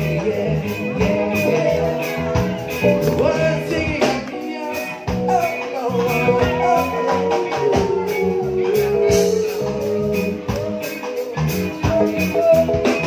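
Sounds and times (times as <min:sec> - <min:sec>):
man singing: 0:00.0 - 0:13.0
rock band playing: 0:00.0 - 0:13.0.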